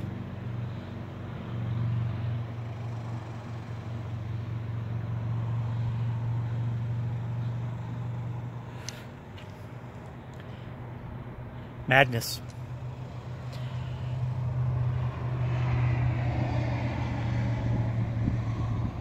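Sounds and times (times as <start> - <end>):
vehicle engine idling: 0.0 - 15.6.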